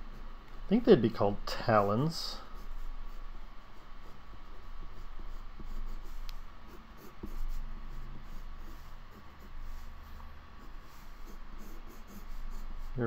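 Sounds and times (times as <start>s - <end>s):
pen scratching on paper: 2.5s - 13.0s.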